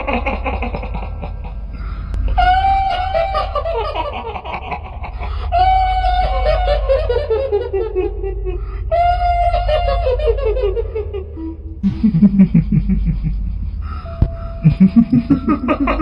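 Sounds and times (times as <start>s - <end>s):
shrill ghostly laugh: 0.0s - 14.0s, 14.6s - 16.0s
low droning hum: 0.0s - 16.0s.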